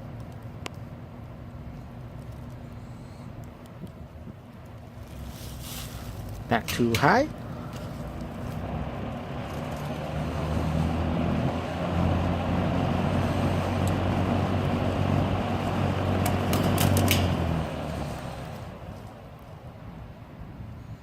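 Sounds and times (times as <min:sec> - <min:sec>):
box fan motor hum: 0:00.0 - 0:20.8
air rushing from fan blades: 0:00.0 - 0:21.0.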